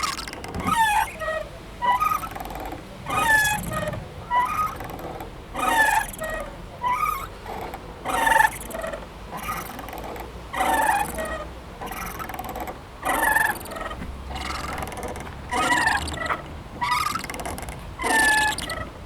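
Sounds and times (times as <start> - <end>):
playground swing squeaking: 0.0 - 19.0.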